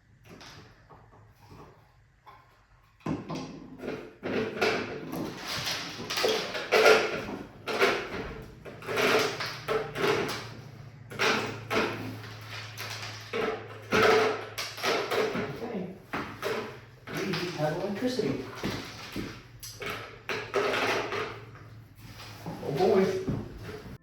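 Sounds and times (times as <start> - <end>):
knocking and rattling of objects: 0.0 - 24.0.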